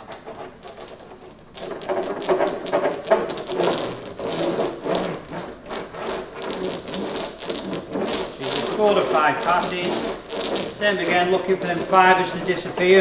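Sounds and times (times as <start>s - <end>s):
paddle roller wet clicks: 0.0s - 13.0s.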